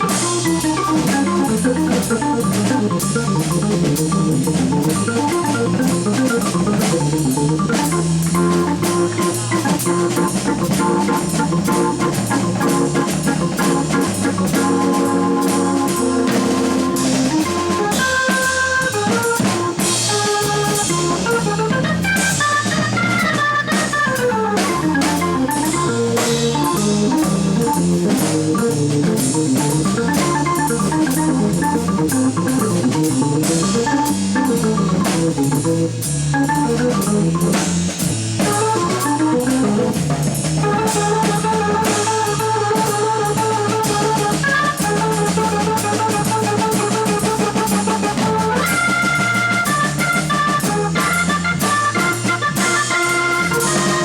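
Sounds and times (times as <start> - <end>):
drum kit: 0.0 - 54.0
jazz organ: 0.0 - 54.0.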